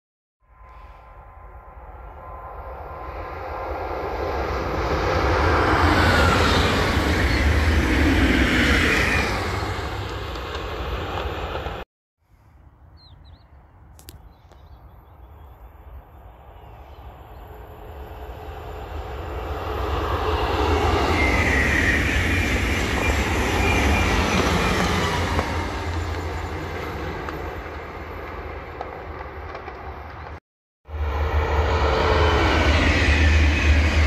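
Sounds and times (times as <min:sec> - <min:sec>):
high-speed train passing: 0:00.4 - 0:11.8, 0:15.2 - 0:34.0.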